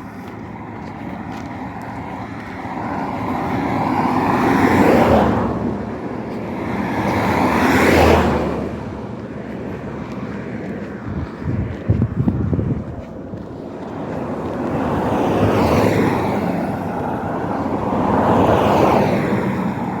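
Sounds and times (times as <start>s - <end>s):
traffic noise: 0.0s - 20.0s
vehicles passing by: 0.0s - 20.0s.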